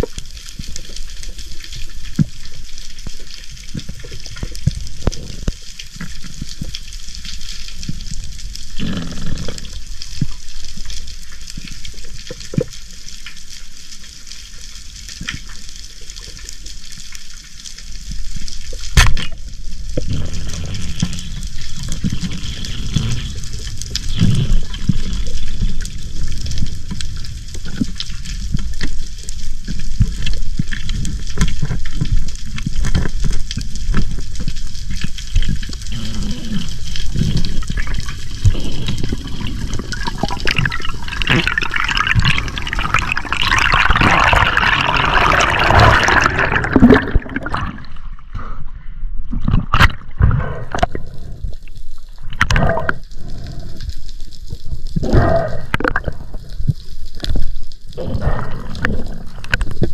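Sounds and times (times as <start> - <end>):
fizzing bubbling hiss: 0.0 - 48.3, 49.5 - 59.9
water sloshing and rushing: 0.0 - 59.9.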